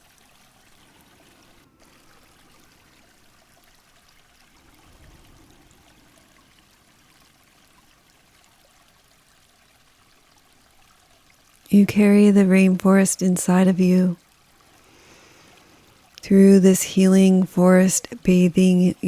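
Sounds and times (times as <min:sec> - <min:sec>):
running water rushing: 0:00.0 - 0:19.0.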